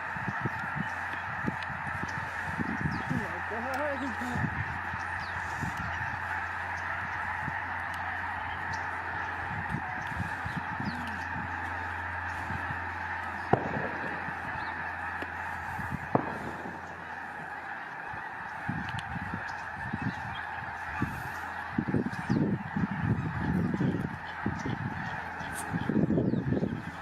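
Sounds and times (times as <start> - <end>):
geese honking: 0.0 - 27.0
low steady hum: 4.2 - 27.0.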